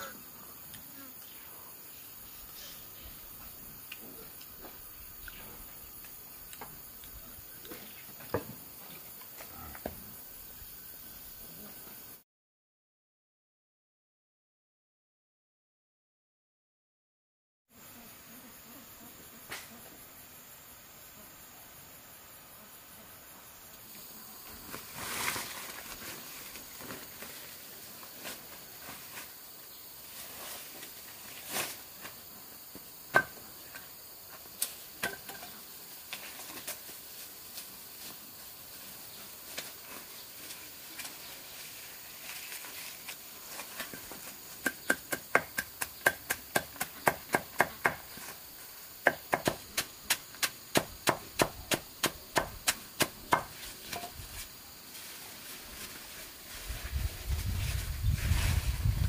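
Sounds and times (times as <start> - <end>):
forest insects hissing: 0.0 - 12.2, 17.7 - 59.0.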